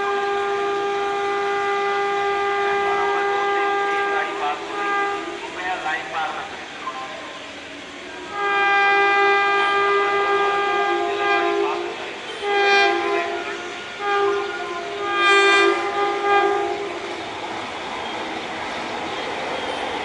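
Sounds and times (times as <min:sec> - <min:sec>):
locomotive two-tone horn: 0:00.0 - 0:06.1, 0:08.2 - 0:18.2
train rushing past: 0:00.0 - 0:20.0.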